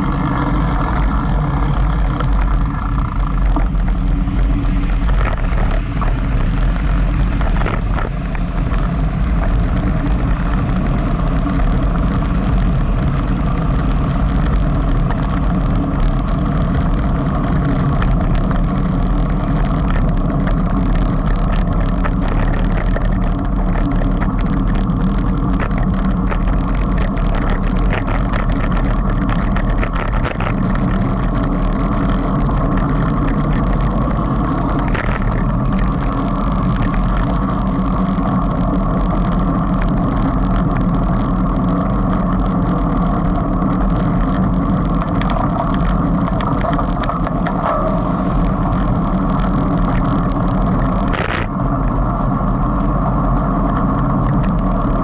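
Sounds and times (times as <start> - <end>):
tyre and road noise: 0.0 - 55.0
wind rumble on microphone: 0.0 - 55.0.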